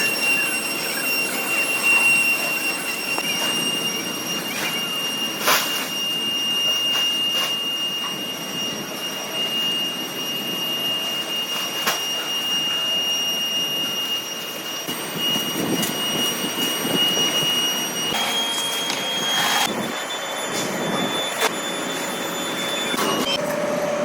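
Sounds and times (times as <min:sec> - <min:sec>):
machinery high-pitched whine: 0:00.0 - 0:24.0.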